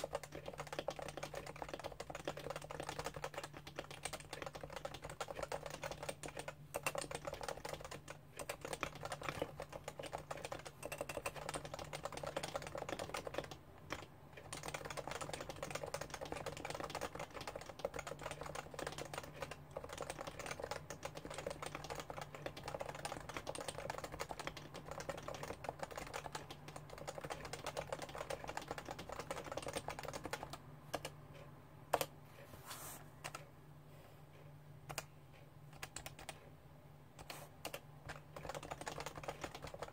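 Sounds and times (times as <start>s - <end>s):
fast typing on keyboard: 0.0s - 31.2s, 35.7s - 36.4s, 37.2s - 39.9s.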